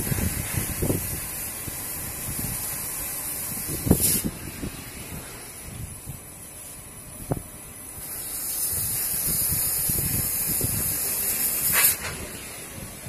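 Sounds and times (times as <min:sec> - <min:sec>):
flame hissing roar: 0:00.0 - 0:13.0.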